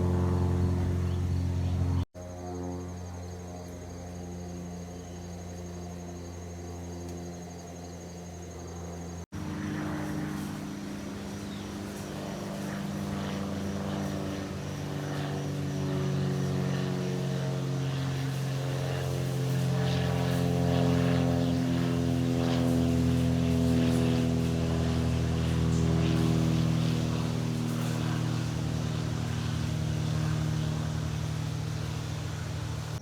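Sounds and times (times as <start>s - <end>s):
propeller airplane droning: 0.0s - 33.0s.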